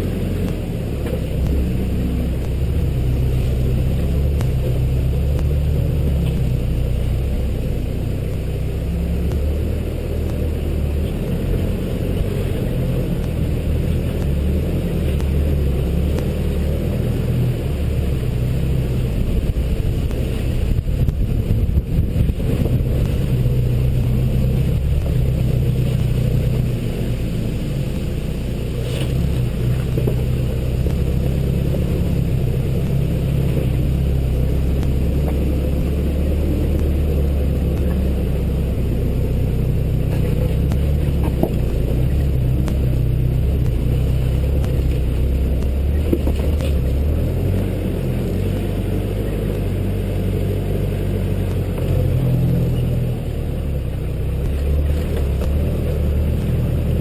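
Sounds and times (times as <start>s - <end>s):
engine running at low revs: 0.0s - 57.0s.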